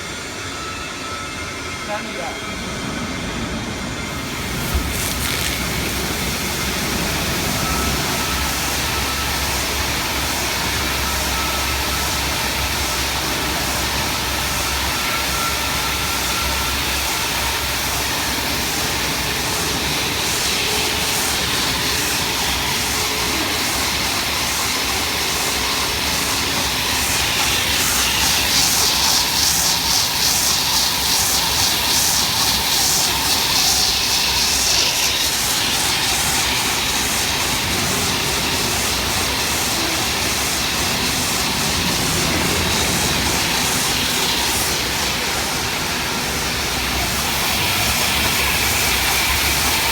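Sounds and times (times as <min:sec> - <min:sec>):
machine running: 0:01.9 - 0:49.9
rapid hissing pulse: 0:02.9 - 0:49.9.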